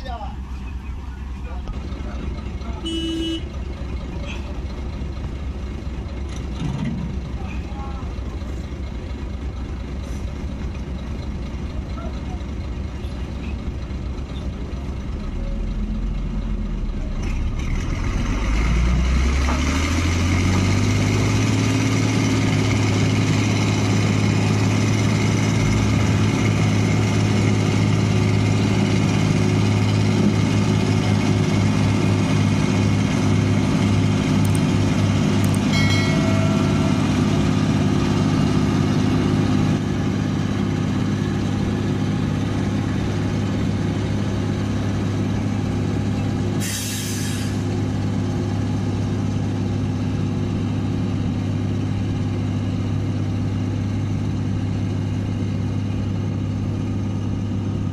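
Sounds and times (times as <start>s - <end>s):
ferry engine revving: 0.0s - 57.9s.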